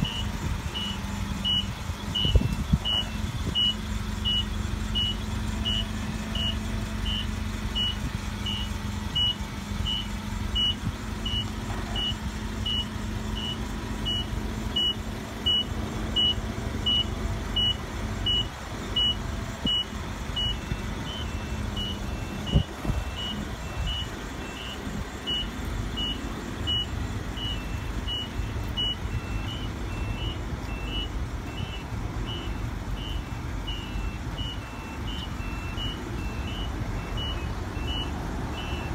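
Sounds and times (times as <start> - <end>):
forklift engine running: 0.0 - 38.9
forklift warning beeper: 0.0 - 38.9.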